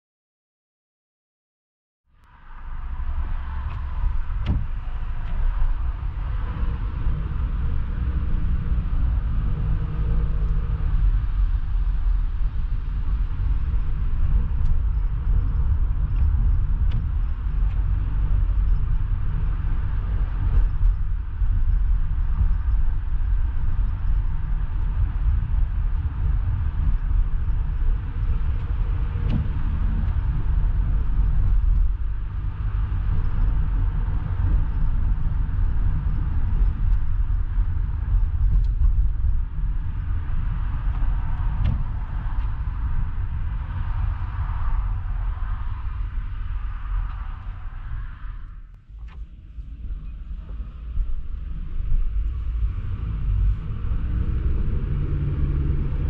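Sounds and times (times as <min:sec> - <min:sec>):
car engine and road noise: 0:02.1 - 0:56.0.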